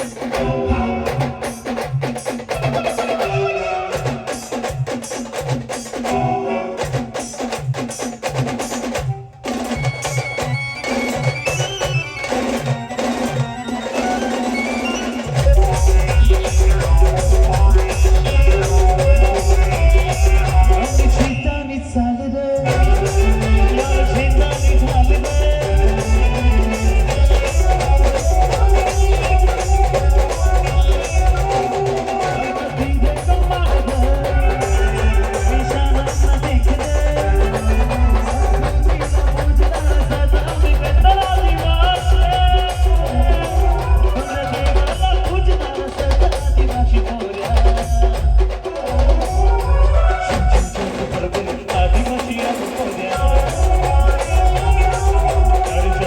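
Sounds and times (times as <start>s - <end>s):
heavy bass drum beats: 0.0s - 21.8s, 22.6s - 56.0s
live band music: 0.0s - 56.0s.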